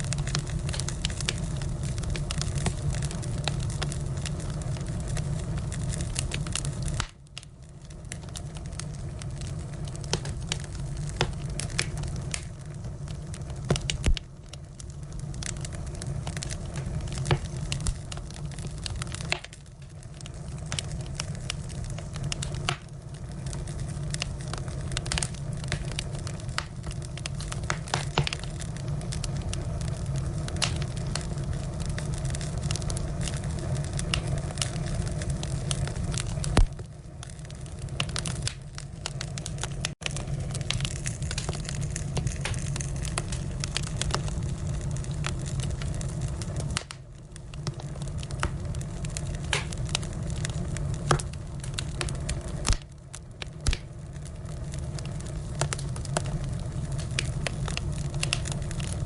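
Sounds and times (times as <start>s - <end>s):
fire low rumble: 0.0s - 59.0s
firewood crackling and popping: 0.0s - 59.0s.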